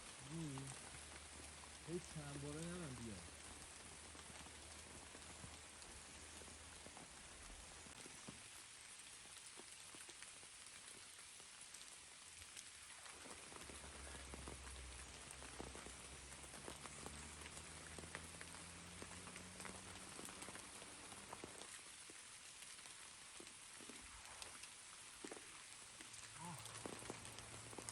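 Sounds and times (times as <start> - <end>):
light rain falling: 0.0 - 27.9
raindrops ticking sharply: 0.0 - 27.9.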